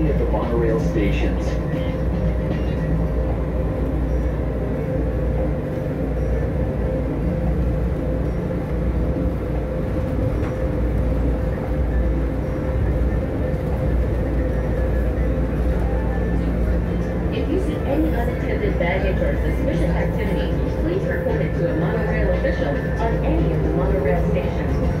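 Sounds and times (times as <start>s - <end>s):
constant hum: 0.0s - 25.0s
monorail car deep rumble: 0.0s - 25.0s.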